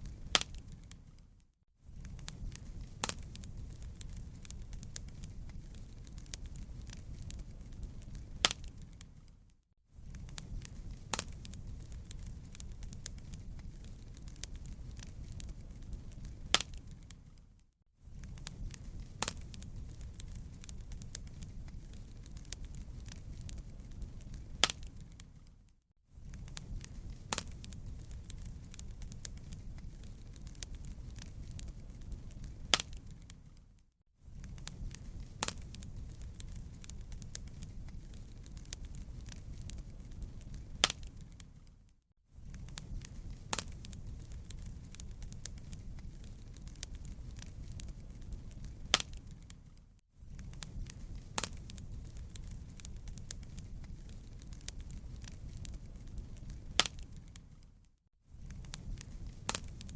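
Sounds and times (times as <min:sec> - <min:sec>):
sharp pops and snaps: 0:00.0 - 0:01.3, 0:02.0 - 0:17.6, 0:18.2 - 0:33.8, 0:34.4 - 0:49.8, 0:50.4 - 0:59.9
fireplace crackling: 0:00.0 - 0:57.8, 0:58.4 - 0:59.9.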